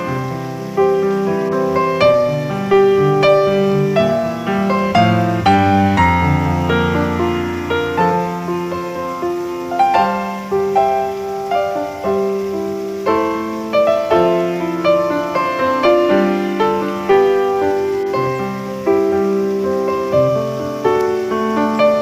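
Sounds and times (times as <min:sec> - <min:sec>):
slow piano melody: 0:00.0 - 0:22.0.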